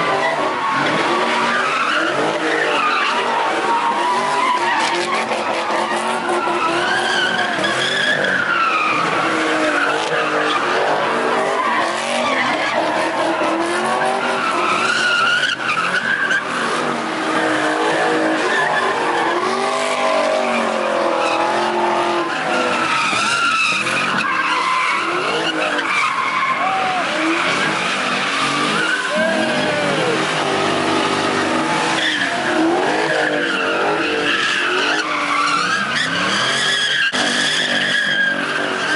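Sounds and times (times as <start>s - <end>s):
engines revving: 0.0s - 38.9s
tires squealing: 0.0s - 38.9s.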